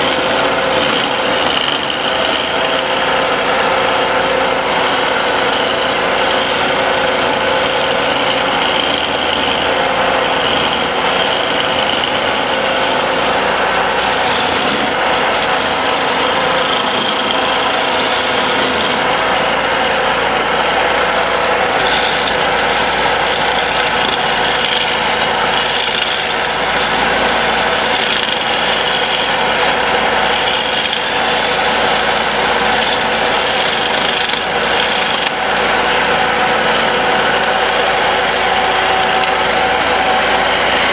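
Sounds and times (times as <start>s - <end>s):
lathe motor hum: 0.0s - 40.9s
tool rasping on spinning wood: 0.0s - 40.9s.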